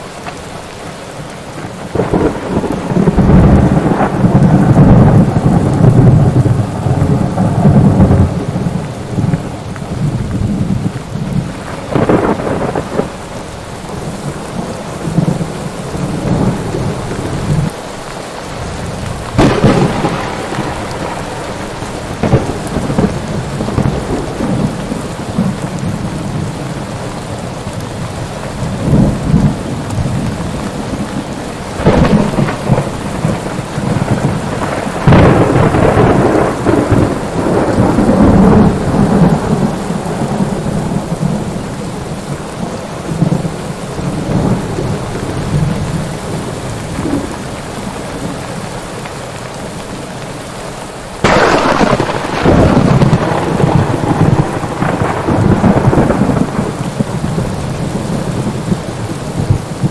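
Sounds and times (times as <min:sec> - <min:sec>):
heavy rain: 0:00.0 - 0:59.9
rolling thunder: 0:01.6 - 0:17.8, 0:18.5 - 0:26.9, 0:28.0 - 0:47.5, 0:51.2 - 0:59.9.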